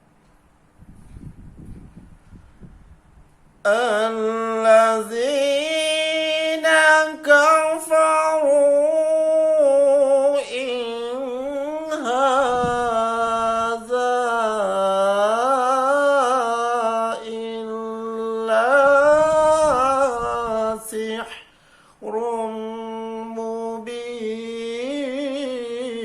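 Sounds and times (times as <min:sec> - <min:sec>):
person chanting recitation: 0:03.6 - 0:26.0.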